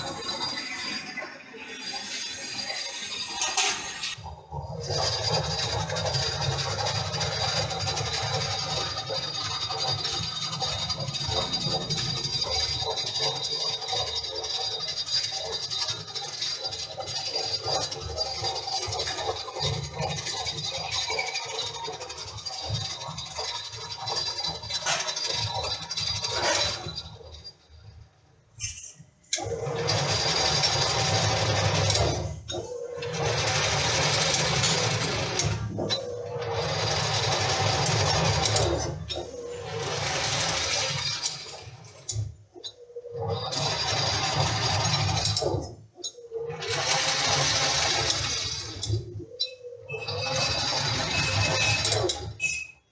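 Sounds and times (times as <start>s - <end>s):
lathe tool scraping metal: 0.0s - 28.0s, 28.6s - 52.8s.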